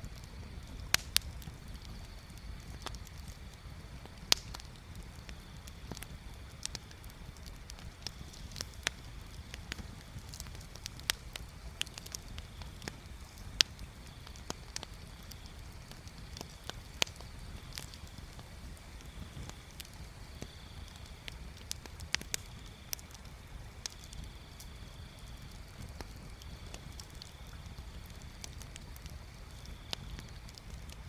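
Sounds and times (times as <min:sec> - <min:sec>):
sharp pops of burning wood: 0:00.0 - 0:31.0
wood fire crackling: 0:00.0 - 0:31.0.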